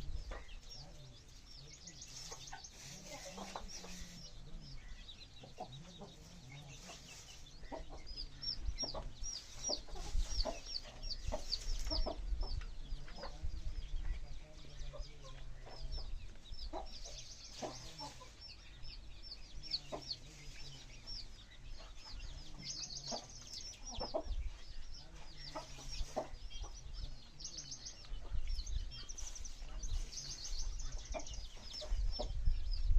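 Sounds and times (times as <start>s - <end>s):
chickens clucking: 0.0s - 32.9s
high-pitched peeping: 0.0s - 32.9s.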